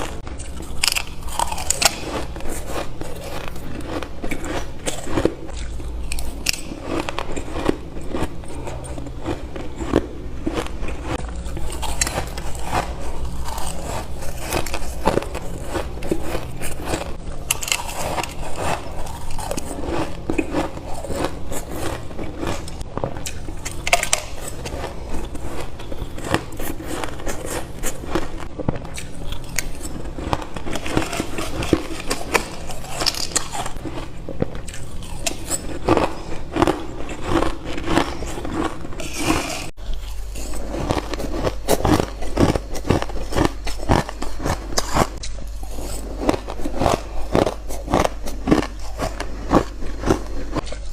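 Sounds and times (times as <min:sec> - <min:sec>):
ice crunching being bitten: 0:00.0 - 0:50.9.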